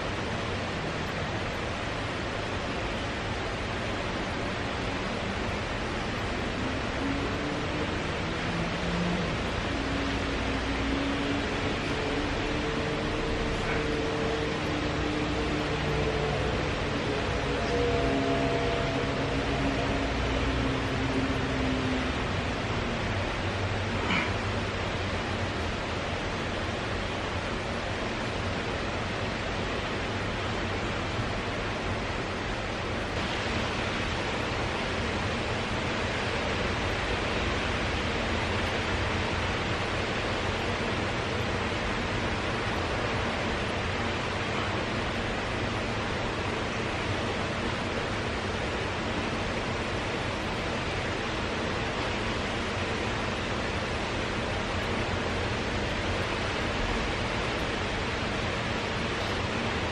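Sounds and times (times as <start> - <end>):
fan running: 0.0 - 59.9.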